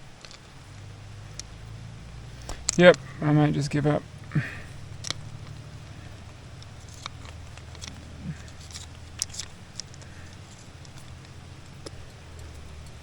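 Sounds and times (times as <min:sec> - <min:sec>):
wind hum: 0:00.0 - 0:13.0
climbing gear clicking on rock: 0:02.4 - 0:13.0.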